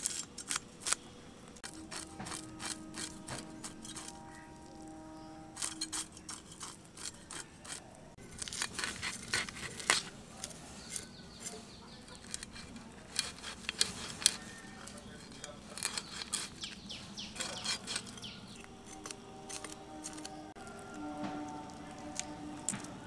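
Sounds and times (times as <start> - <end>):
fish scraping against blade: 0.0 - 1.0, 1.6 - 22.8.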